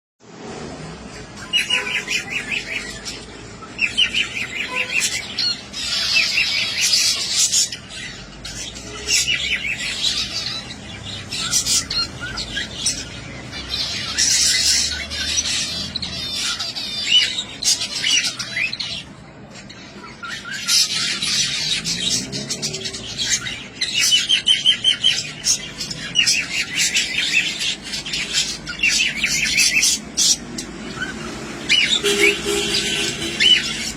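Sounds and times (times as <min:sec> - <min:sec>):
finches chattering and singing: 0:01.0 - 0:33.9.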